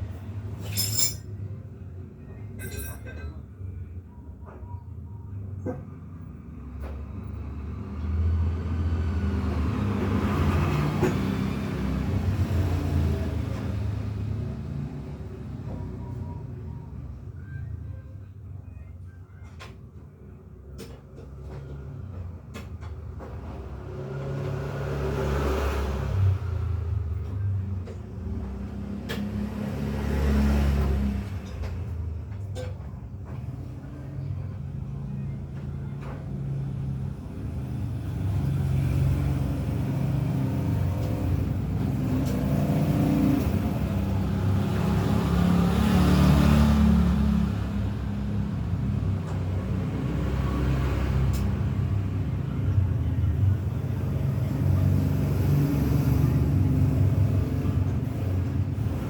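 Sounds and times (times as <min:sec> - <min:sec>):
motor vehicles passing: 0:00.0 - 0:03.2, 0:05.3 - 0:17.8, 0:20.7 - 0:59.0.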